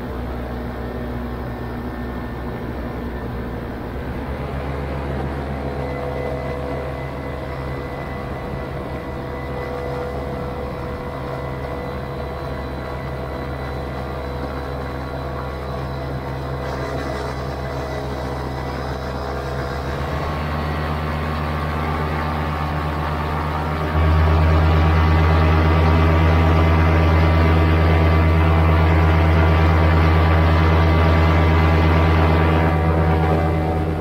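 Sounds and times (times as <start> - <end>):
paramotor engine and propeller: 0.0 - 34.0.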